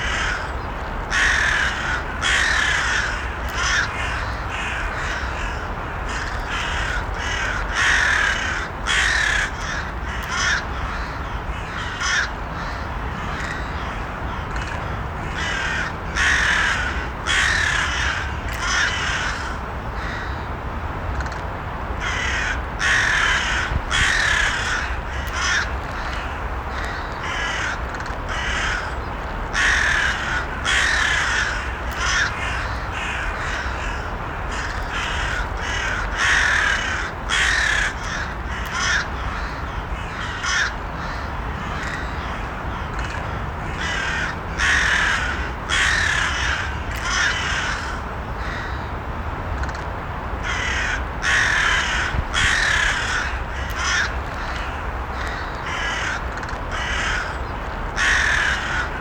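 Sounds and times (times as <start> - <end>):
crows cawing: 0.0 - 20.5, 22.0 - 48.9, 50.4 - 59.0
low background noise: 0.0 - 59.0.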